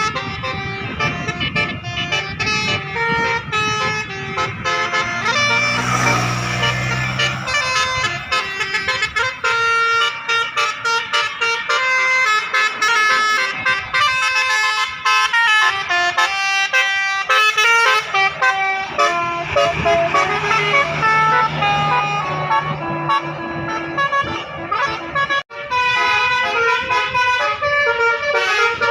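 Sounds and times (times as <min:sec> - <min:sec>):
musical bus air horn melody: 0:00.0 - 0:28.9.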